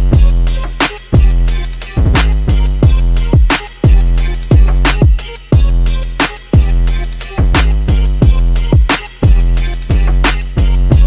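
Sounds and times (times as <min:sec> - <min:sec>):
hip hop music with heavy bass drum: 0:00.0 - 0:11.0.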